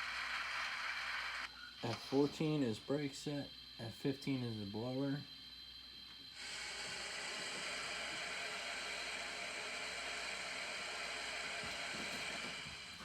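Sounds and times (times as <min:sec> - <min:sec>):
steam locomotive blower hiss: 0:00.0 - 0:13.0.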